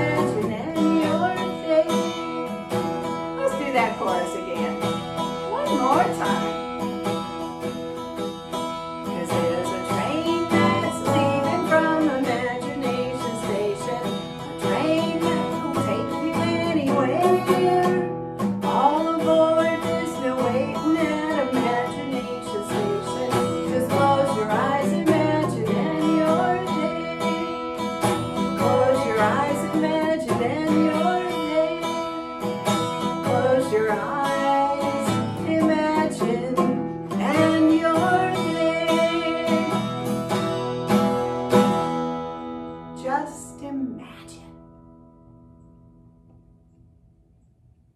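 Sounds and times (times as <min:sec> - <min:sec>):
woman singing: 0:00.0 - 0:07.8, 0:08.9 - 0:40.6, 0:42.9 - 0:44.7
acoustic guitar strumming: 0:00.0 - 0:47.3.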